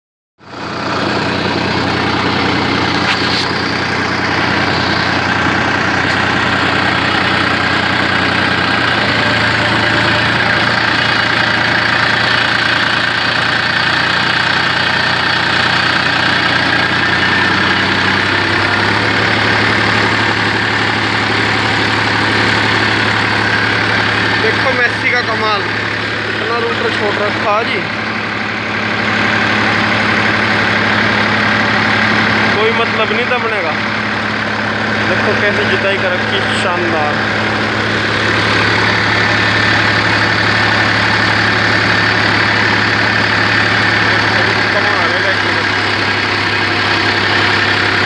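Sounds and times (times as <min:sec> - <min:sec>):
tractor diesel engine running: 0:00.4 - 0:48.0.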